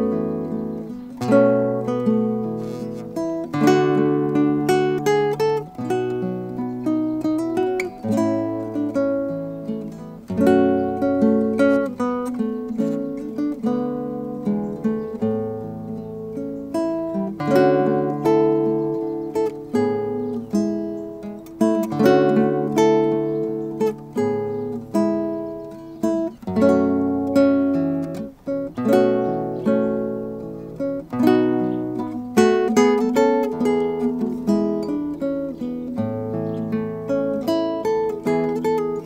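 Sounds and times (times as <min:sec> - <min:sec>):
classical guitar fingerstyle: 0:00.0 - 0:39.0.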